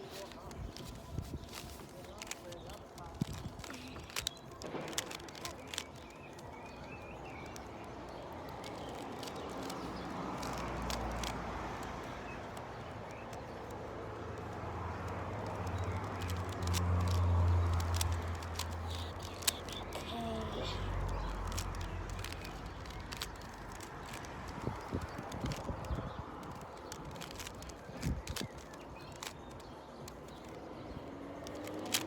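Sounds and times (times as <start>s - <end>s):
plastic puzzle cube clicking: 0.0s - 32.0s.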